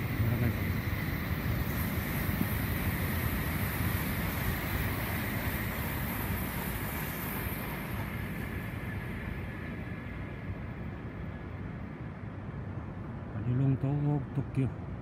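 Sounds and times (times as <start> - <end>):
train rushing past: 0.0 - 13.3.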